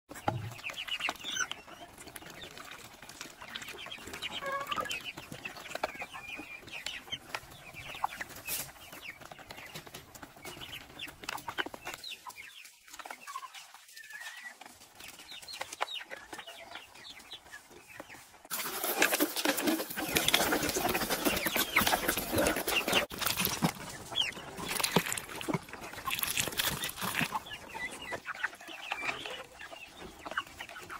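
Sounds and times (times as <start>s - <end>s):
chickens clucking: 0.1s - 30.9s.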